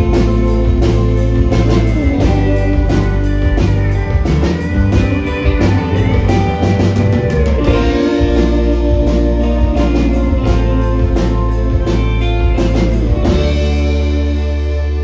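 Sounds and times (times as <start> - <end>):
bass guitar: 0.0 - 15.0
electric guitars: 0.0 - 15.0
steady drum beat: 0.0 - 15.0.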